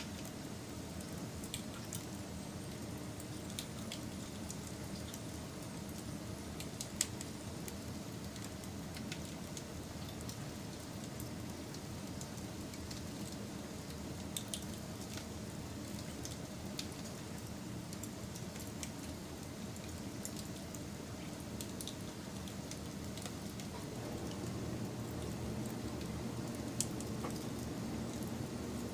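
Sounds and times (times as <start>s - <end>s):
fire popping and snapping: 0.0s - 28.9s
low rumble of burning: 0.0s - 28.9s.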